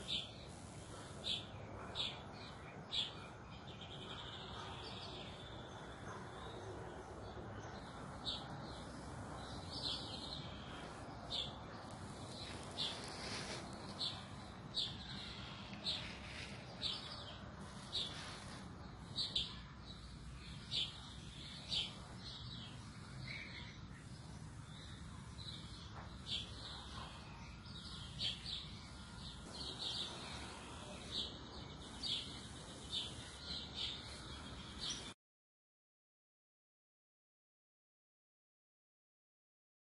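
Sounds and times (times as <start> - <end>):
bird chirping: 0.0 - 35.1.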